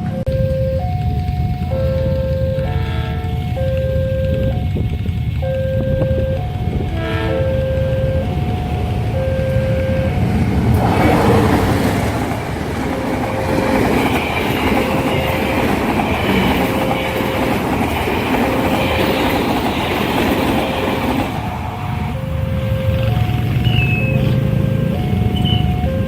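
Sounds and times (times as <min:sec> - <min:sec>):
level-crossing alarm tones: 0:00.0 - 0:26.0.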